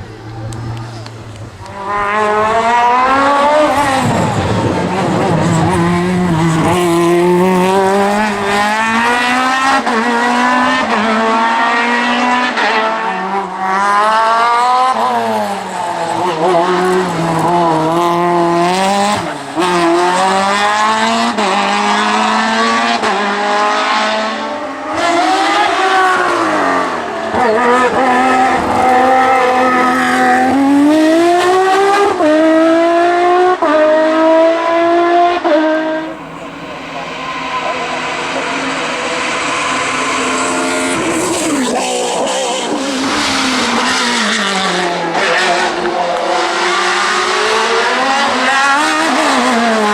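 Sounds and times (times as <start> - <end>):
race car engine revving: 0.0 - 49.9.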